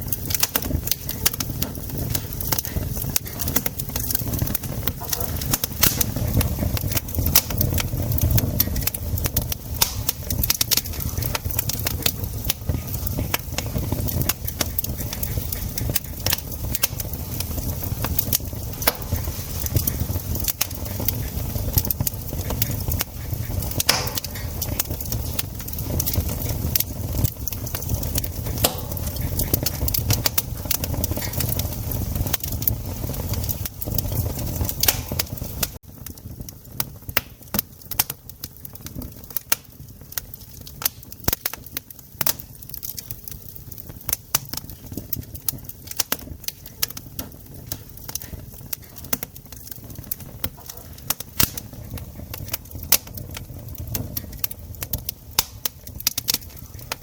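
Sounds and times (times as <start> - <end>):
campfire wood crackling: 0.0 - 57.0
sharp pops and snaps: 0.0 - 57.0.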